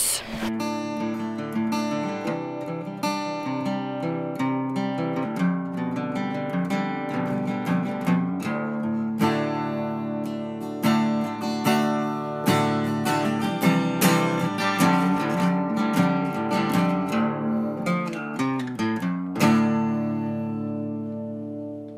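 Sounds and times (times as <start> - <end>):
acoustic guitar picking and strumming: 0.0 - 21.9.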